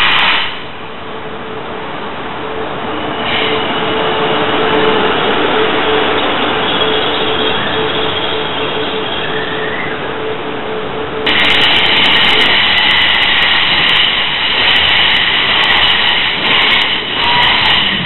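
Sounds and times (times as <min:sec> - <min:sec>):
high train whine: 0:00.0 - 0:18.0
wheels rushing on rails: 0:00.0 - 0:18.0.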